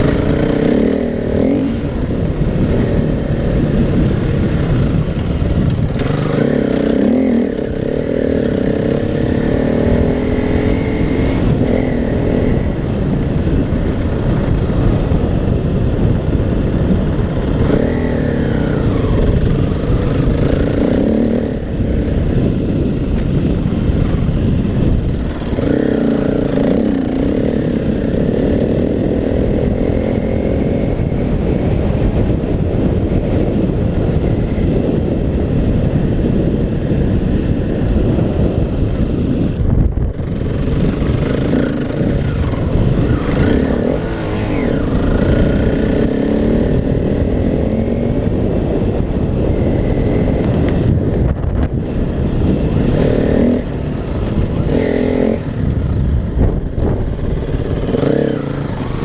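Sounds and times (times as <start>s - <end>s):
dirt bike engine revving: 0.0s - 59.0s
wind rumble on microphone: 0.0s - 59.0s.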